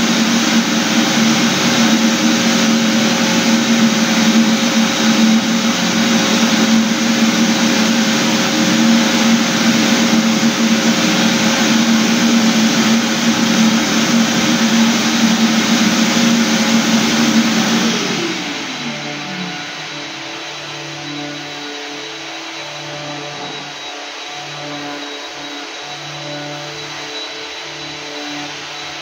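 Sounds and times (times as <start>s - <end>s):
floor sanding machine running: 0.0s - 29.0s
motor spinning down: 0.0s - 29.0s.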